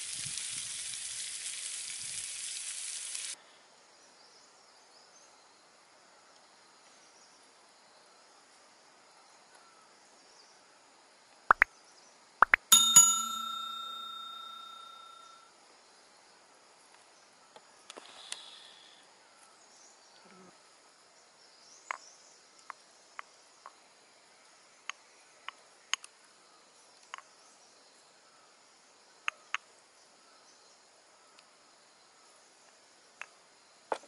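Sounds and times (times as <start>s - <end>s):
insect hum: 0.0s - 12.4s, 15.6s - 34.0s.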